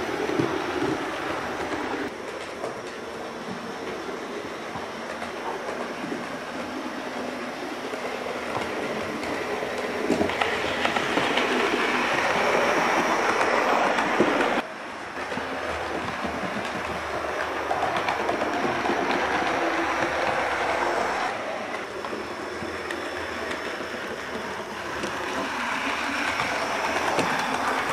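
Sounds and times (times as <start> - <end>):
model train wheels rattling on rail: 4.8 - 27.9.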